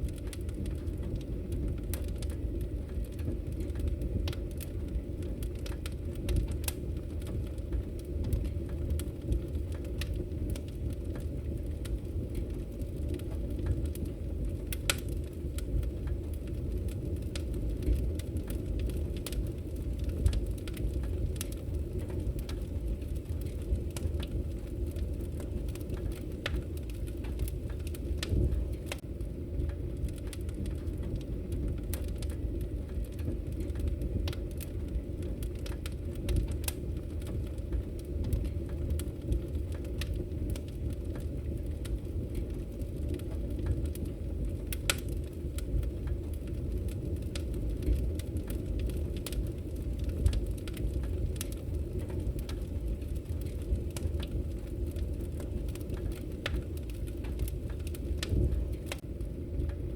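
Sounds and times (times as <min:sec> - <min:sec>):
low rumble of burning logs: 0:00.0 - 0:59.9
wood fire crackling and popping: 0:00.0 - 0:59.9.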